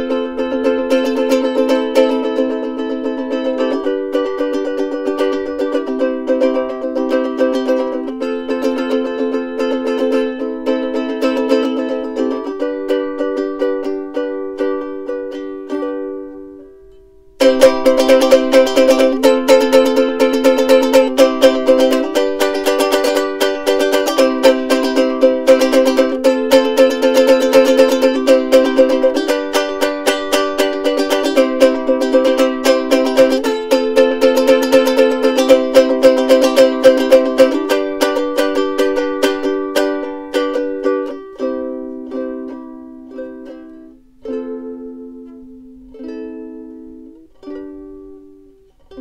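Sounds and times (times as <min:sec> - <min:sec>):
ukulele strumming chords: 0:00.0 - 0:49.0.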